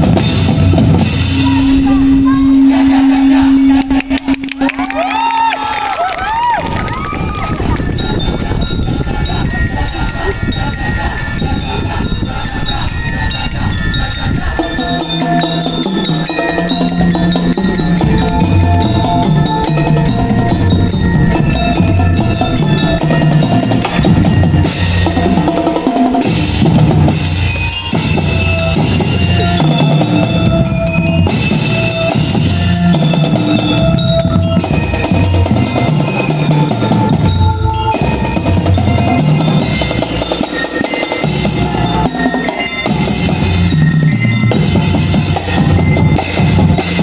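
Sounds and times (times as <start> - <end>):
drums and bass drum: 0.0 - 5.1, 6.2 - 47.0
glockenspiel and marimba notes: 0.0 - 5.1, 6.4 - 47.0
marching band playing: 0.0 - 8.3, 14.5 - 47.0.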